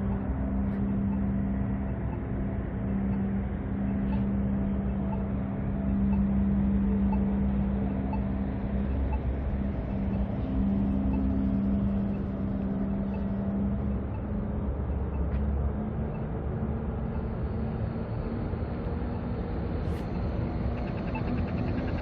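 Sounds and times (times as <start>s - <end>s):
vehicle engines humming: 0.0s - 22.0s.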